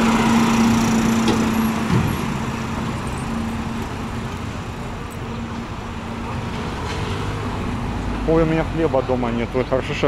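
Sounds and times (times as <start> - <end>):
road noise: 0.0 - 10.0
vehicle engine humming: 0.0 - 10.0.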